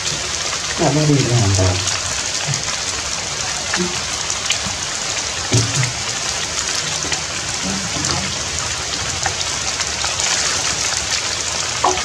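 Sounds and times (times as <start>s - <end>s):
raindrops ticking: 0.0s - 12.0s
steady rainfall: 0.0s - 12.0s.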